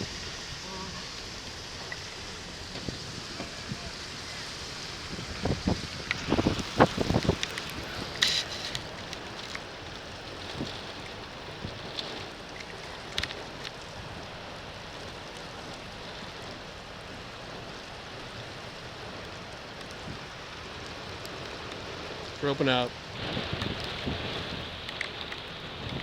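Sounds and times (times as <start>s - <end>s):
rain: 0.0s - 26.0s
wind: 0.0s - 26.0s.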